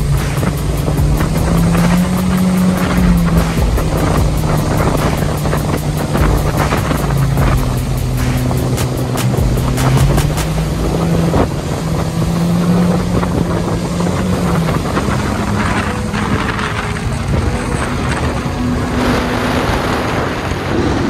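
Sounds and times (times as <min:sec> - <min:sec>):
jet ski engine running: 0:00.0 - 0:21.0
wind buffeting microphone: 0:00.0 - 0:21.0.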